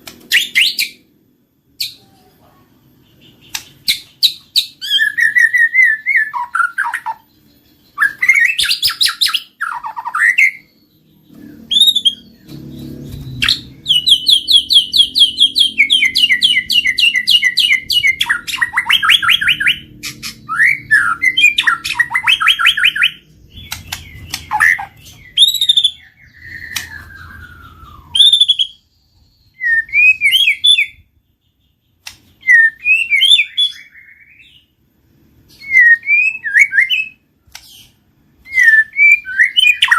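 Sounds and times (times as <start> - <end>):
songbird whistles and trills: 3.1 - 34.8, 35.5 - 39.9.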